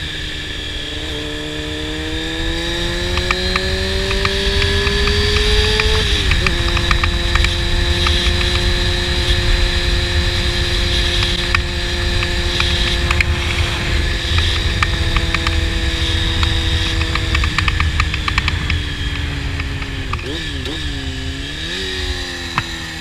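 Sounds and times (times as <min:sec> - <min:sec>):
sport bike engine cruising: 0:00.0 - 0:23.0
wind rumble on microphone: 0:00.0 - 0:23.0.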